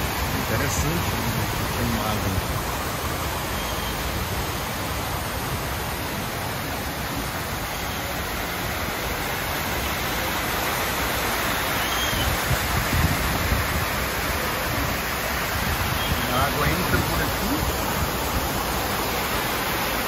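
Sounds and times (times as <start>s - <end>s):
water splashing at water wheel: 0.0s - 20.0s.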